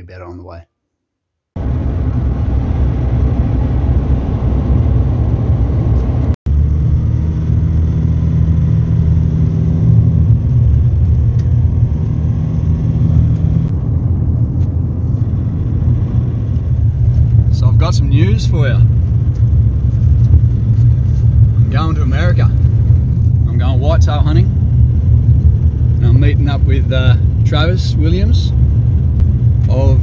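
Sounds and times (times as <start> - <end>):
car engine and road rumble: 1.6 - 30.0.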